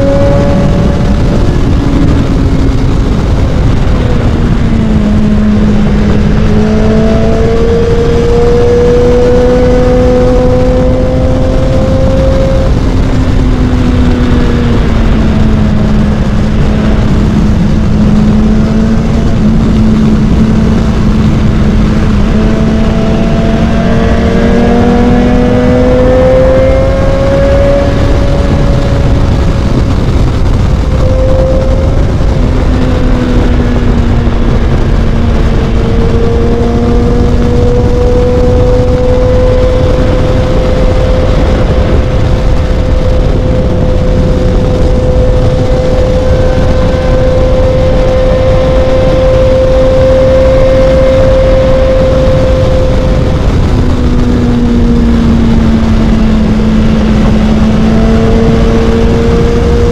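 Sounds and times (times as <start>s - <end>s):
motorcycle engine cruising: 0.0s - 59.9s
wind rush on microphone: 0.0s - 59.9s.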